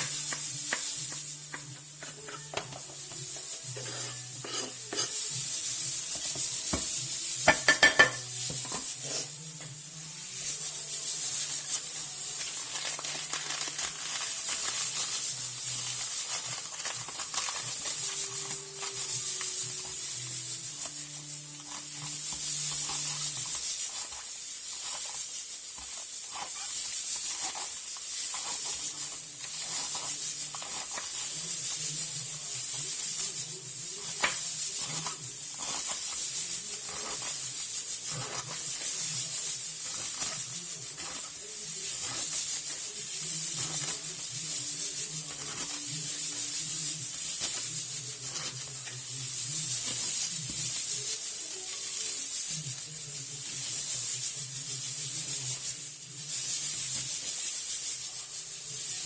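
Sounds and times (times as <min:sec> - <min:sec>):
stirring scrapes in pan: 0:00.0 - 0:09.4, 0:10.2 - 0:52.6
food sizzling in frying pan: 0:00.0 - 0:59.0.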